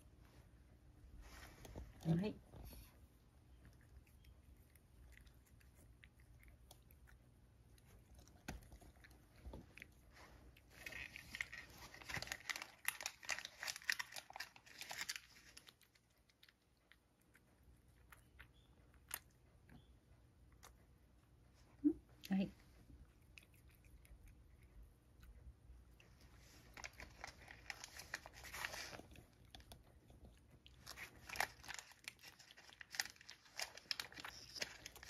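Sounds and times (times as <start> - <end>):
cat crunching dry treats: 3.6 - 19.6, 22.8 - 35.0.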